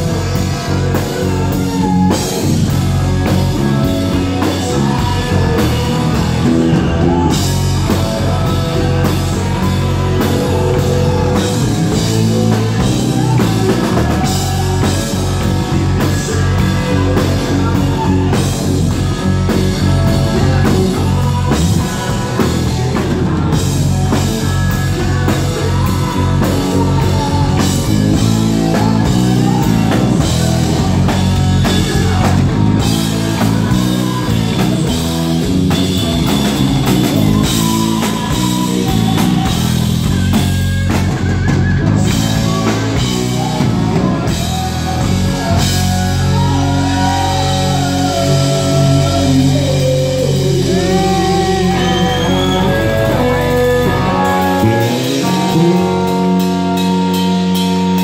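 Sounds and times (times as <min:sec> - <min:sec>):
bass guitar: 0:00.0 - 0:58.0
distorted electric guitar: 0:00.0 - 0:58.0
drum kit: 0:00.0 - 0:58.0
person singing: 0:00.0 - 0:58.0.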